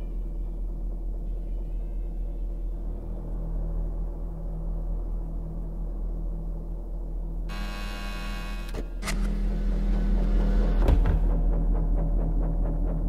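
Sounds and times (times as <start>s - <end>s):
low droning hum: 0.0s - 10.8s.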